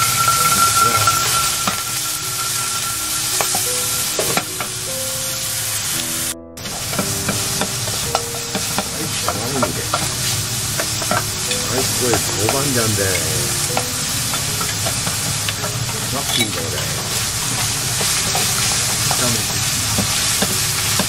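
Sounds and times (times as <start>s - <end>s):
meat sizzling in oil: 0.0s - 21.0s.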